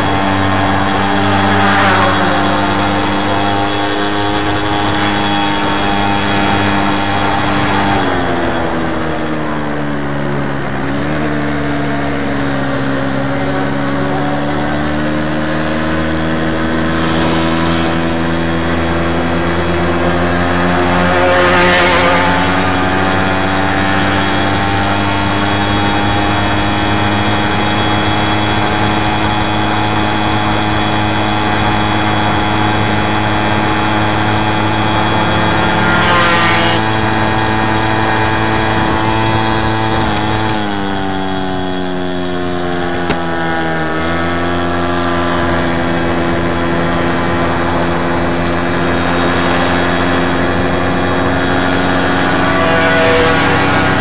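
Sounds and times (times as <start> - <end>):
moped engine running: 0.0 - 54.0.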